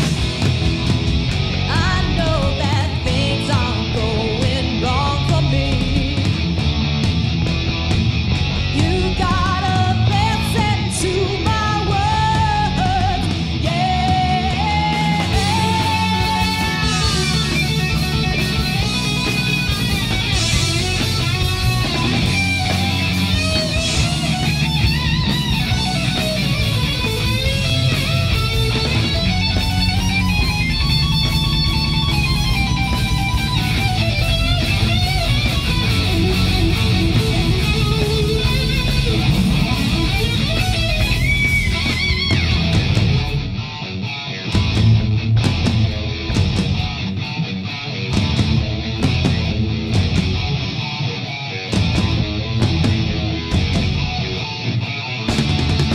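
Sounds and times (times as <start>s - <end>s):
heavy metal band playing: 0.0s - 55.9s
high bending guitar notes: 0.0s - 55.9s.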